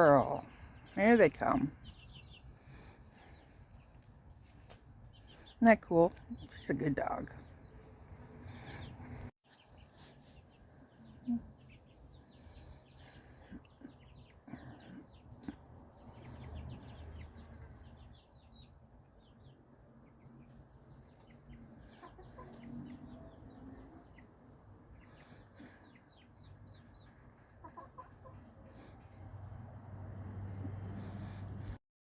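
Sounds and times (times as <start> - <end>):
chicks peeping: 0.3 - 6.5, 7.4 - 29.5.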